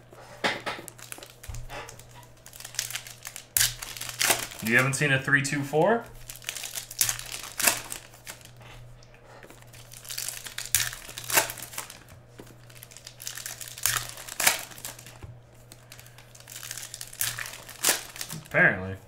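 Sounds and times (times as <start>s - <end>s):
plastic wrappers crinkling and tearing: 0.5s - 19.0s.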